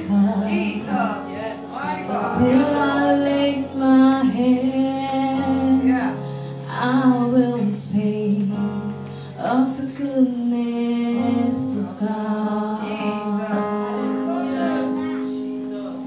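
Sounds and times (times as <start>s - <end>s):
woman singing into microphone: 0.0s - 15.7s
amplified instrumental accompaniment: 0.0s - 16.0s.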